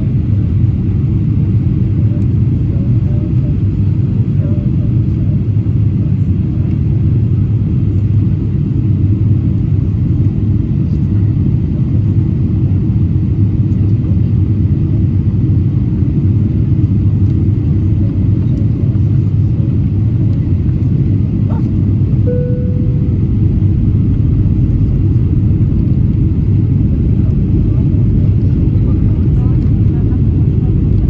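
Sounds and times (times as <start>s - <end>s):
airliner low rumble: 0.0s - 31.0s.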